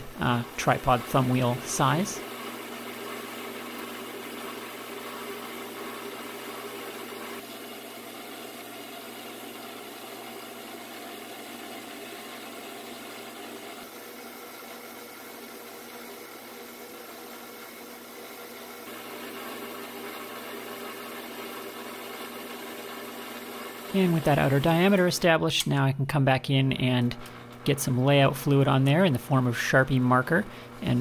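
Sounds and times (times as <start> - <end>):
metal lathe humming: 0.0 - 25.0.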